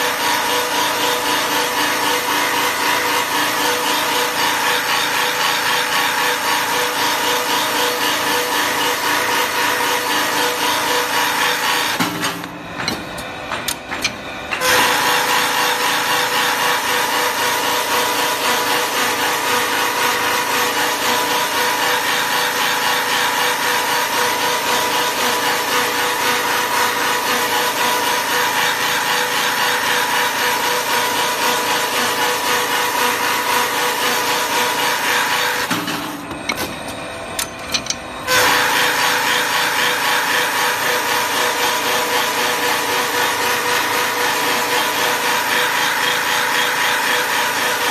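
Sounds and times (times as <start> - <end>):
shaping machine cutting wood: 0.0 - 47.9.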